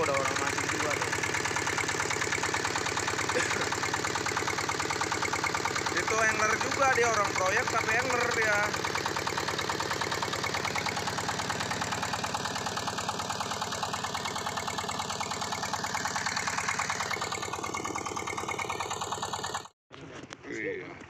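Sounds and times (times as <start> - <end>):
boat engine running: 0.0 - 19.8.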